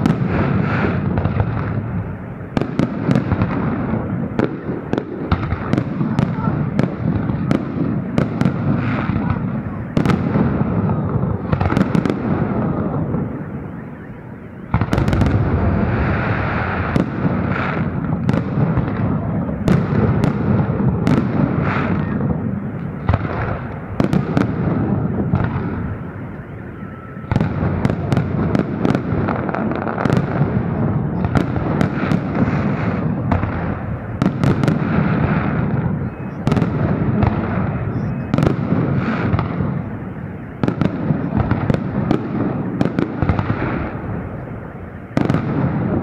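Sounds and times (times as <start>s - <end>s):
fireworks bangs: 0.0s - 46.0s
fireworks crackling rumble: 0.0s - 46.0s.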